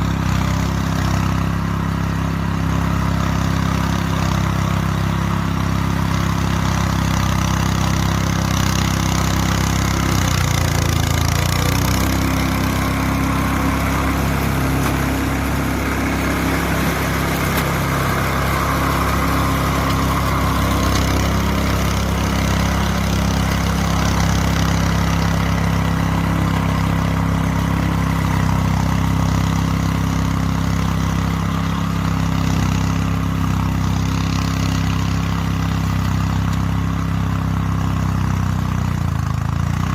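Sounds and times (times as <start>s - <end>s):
small mower engine running: 0.0s - 39.9s.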